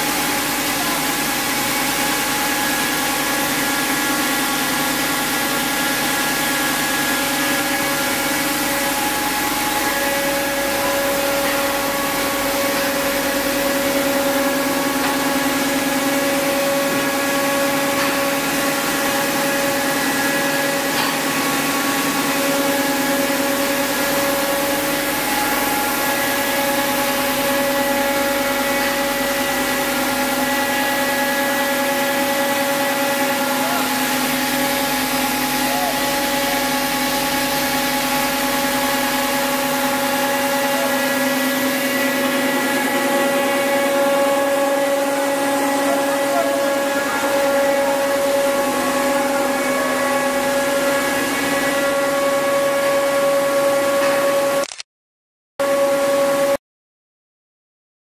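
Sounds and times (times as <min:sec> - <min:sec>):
whining blower tones: 0:00.0 - 0:54.6
machine drone: 0:00.0 - 0:54.8.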